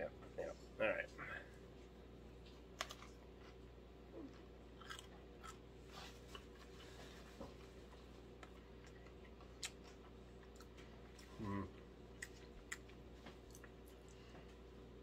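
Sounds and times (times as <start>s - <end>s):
low steady hum: 0.0s - 15.0s
faint chewing: 2.4s - 14.8s.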